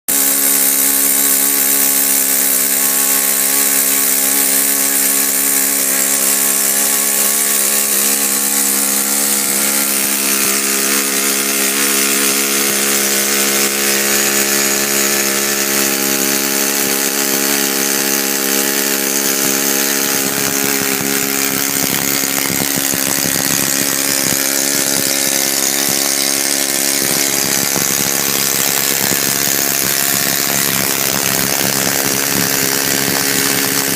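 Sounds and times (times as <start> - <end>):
four-stroke engine running: 0.0 - 33.9.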